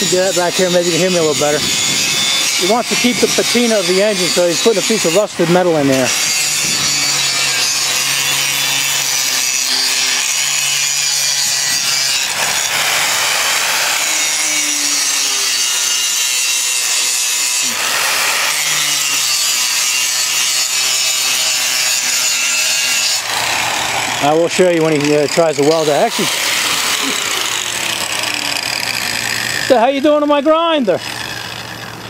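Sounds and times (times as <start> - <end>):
angle grinder grinding metal: 0.0 - 32.0.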